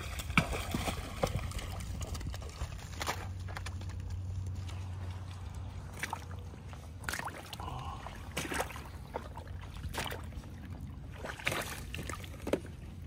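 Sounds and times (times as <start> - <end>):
boots splashing through puddle: 0.0 - 3.8, 4.5 - 12.8
steady low hum: 0.0 - 13.0.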